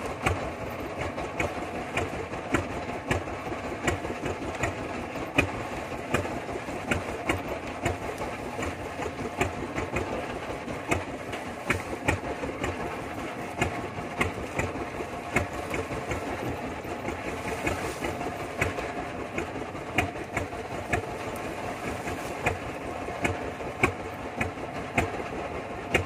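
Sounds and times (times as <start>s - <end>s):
boat engine running: 0.0s - 26.0s
sharp clicks and knocks: 0.0s - 26.0s.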